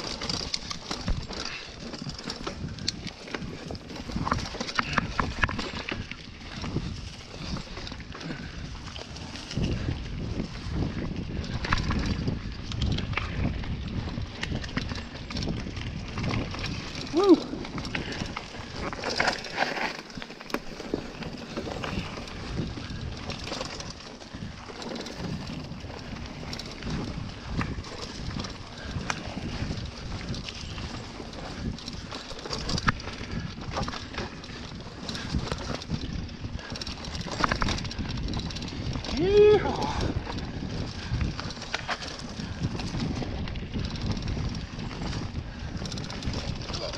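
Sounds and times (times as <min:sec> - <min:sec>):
mountain bike rattling over rocks: 0:00.0 - 0:46.9
wind noise on microphone: 0:00.0 - 0:46.9.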